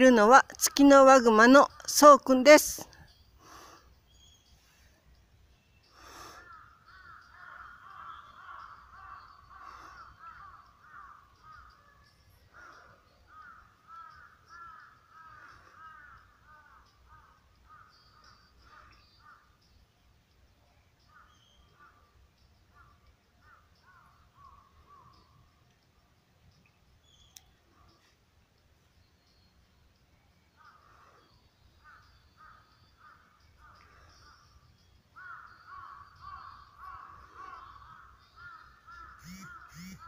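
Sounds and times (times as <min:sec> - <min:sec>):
faint birds calling: 0:00.0 - 0:40.0.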